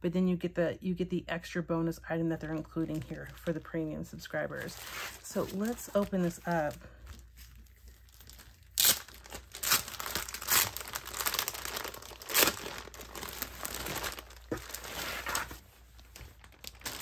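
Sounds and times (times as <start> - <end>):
plastic sleeve crinkling: 2.6 - 17.0.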